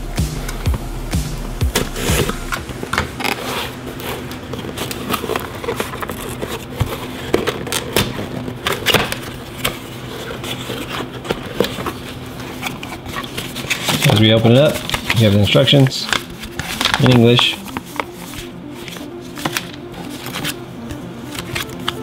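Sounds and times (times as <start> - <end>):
plastic and cardboard rustling: 1.7 - 22.0.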